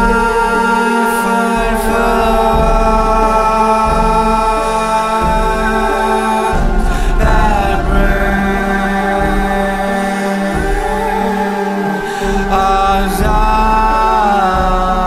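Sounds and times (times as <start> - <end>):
dark electronic music: 0.0 - 15.0.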